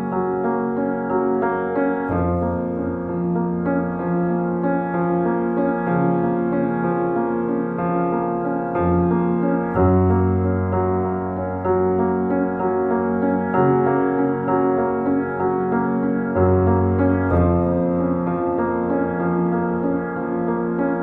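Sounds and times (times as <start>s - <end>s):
piano slow chords: 0.0s - 21.0s.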